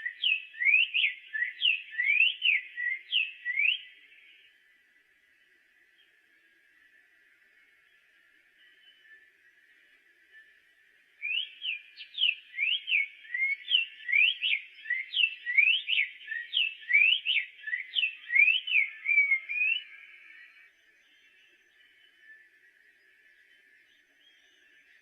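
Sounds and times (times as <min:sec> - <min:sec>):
bird singing whistled notes: 0:00.0 - 0:25.0.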